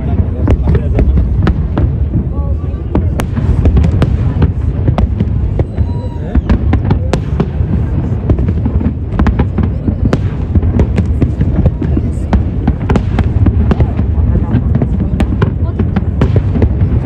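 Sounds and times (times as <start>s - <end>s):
fireworks bangs and crackles: 0.0s - 17.0s
low booming rumble: 0.0s - 17.0s.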